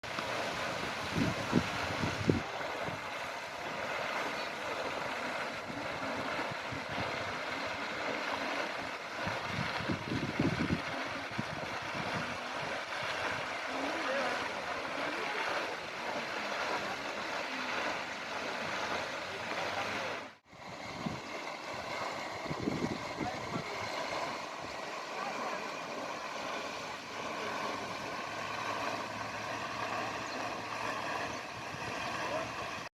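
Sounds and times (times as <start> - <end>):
fountain water splashing: 0.0 - 32.9.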